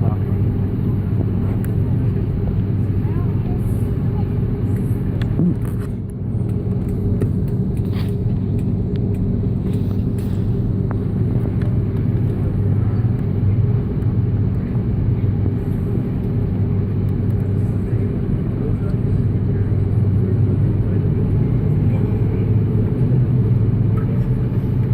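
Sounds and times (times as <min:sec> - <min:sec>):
aircraft cabin rumble: 0:00.0 - 0:24.9
engine hum: 0:00.0 - 0:24.9.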